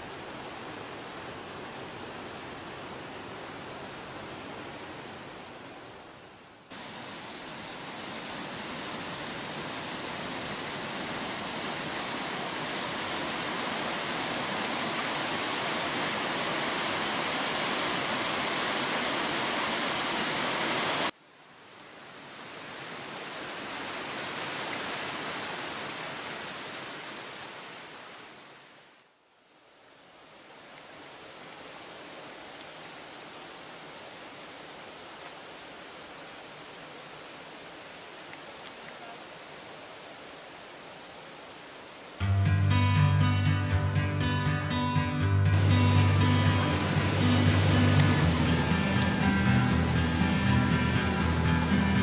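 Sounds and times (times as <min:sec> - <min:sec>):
river water rushing: 0:00.0 - 0:29.0, 0:29.7 - 0:52.0.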